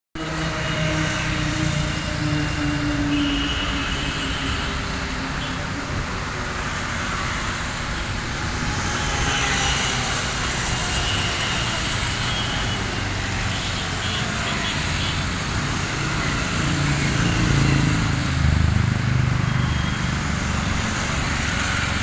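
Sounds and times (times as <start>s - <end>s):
cars passing: 0.2s - 22.0s.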